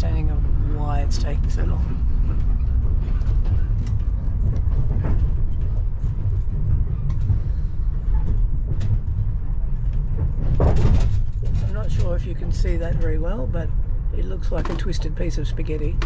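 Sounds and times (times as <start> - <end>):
train coach rumbling on rails: 0.0 - 16.0.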